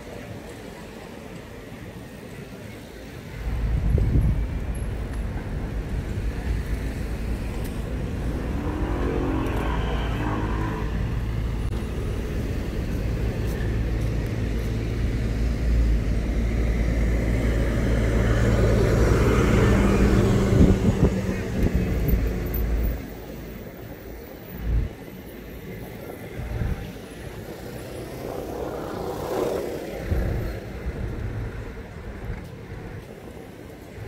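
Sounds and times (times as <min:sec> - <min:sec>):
vehicle engine droning: 0:03.4 - 0:34.0.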